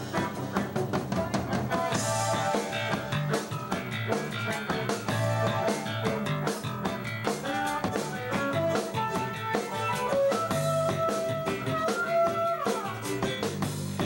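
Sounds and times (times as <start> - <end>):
bass: 0.0 - 14.0
drum kit: 0.0 - 14.0
electric guitar melody: 0.0 - 14.0.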